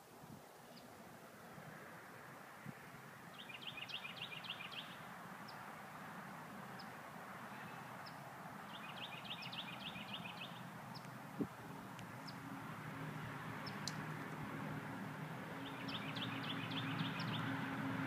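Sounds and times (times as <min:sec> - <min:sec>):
songbird singing: 0:00.0 - 0:01.3, 0:02.6 - 0:18.0.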